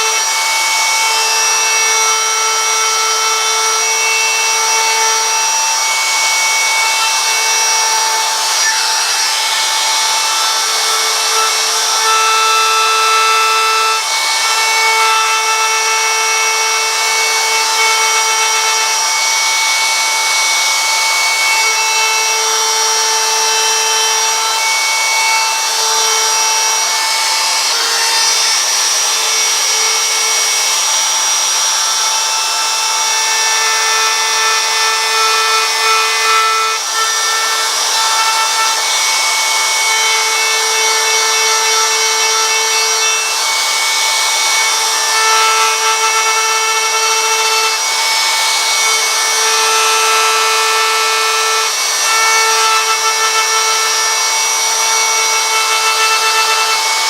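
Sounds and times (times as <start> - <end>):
electric carving tool whining: 0.0 - 57.0.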